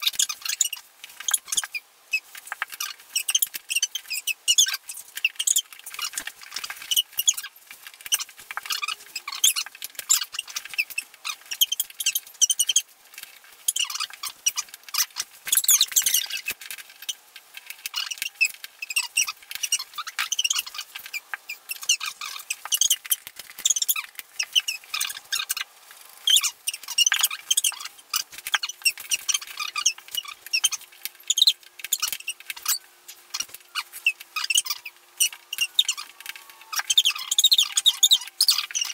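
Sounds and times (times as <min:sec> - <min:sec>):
sped-up high squeaks and clicks: 0:00.0 - 0:12.9, 0:13.6 - 0:38.9.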